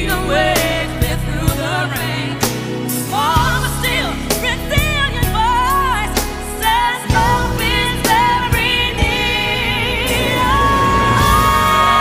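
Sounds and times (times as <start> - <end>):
song with person singing: 0.0 - 12.0.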